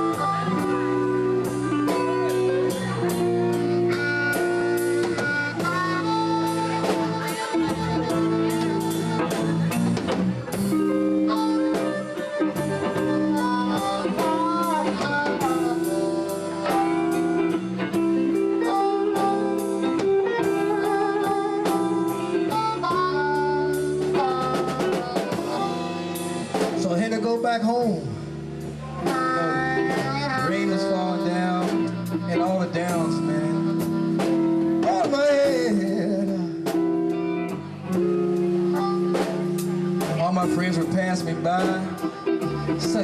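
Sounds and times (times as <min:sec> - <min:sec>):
bending lead guitar notes: 0:00.0 - 0:43.0
drums steady beat: 0:00.0 - 0:43.0.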